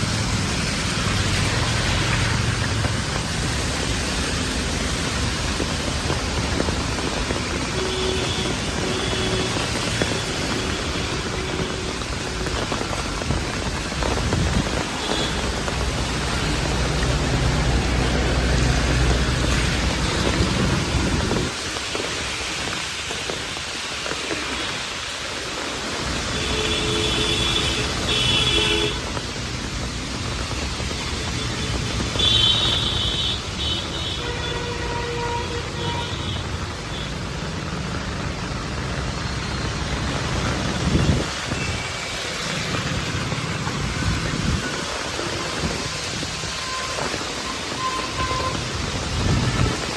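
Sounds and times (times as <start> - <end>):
rain hissing: 0.0 - 49.9
traffic: 0.0 - 49.9.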